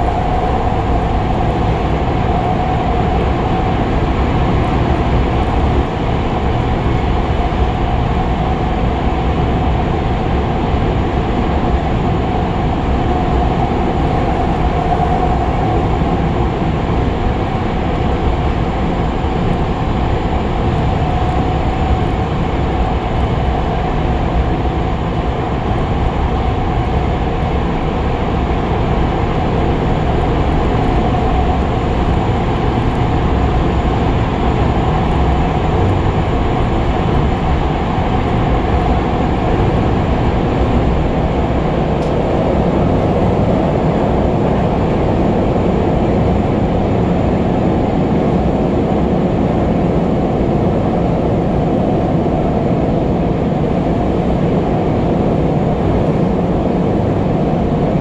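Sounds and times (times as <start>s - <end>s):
steady hum: 0.0s - 58.0s
wheels rumbling on rail: 0.0s - 58.0s.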